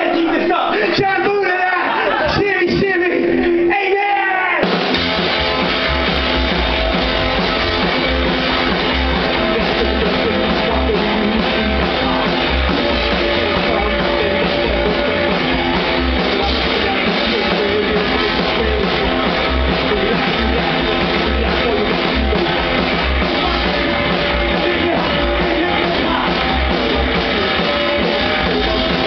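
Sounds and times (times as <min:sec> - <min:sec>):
drum kit: 0:04.5 - 0:29.0
electric guitar: 0:04.6 - 0:29.0
upright double bass: 0:04.9 - 0:29.0.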